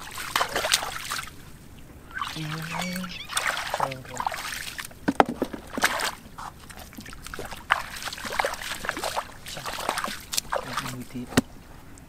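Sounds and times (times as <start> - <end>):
bare feet wading through water: 0.0 - 11.9.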